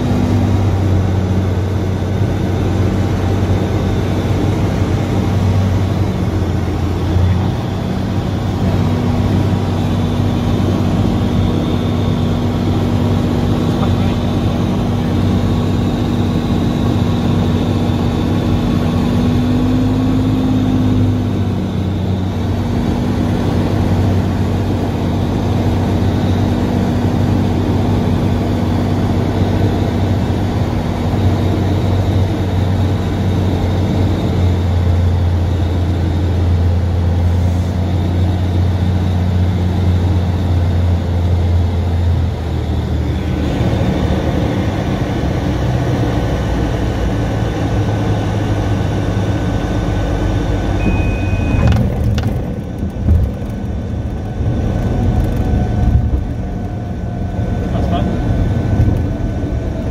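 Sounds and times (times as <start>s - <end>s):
aircraft engine and propeller drone: 0.0s - 59.9s.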